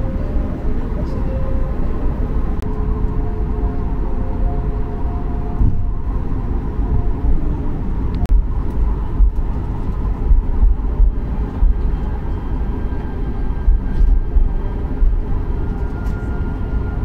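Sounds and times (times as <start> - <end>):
aircraft engines at taxi power: 0.0 - 17.0.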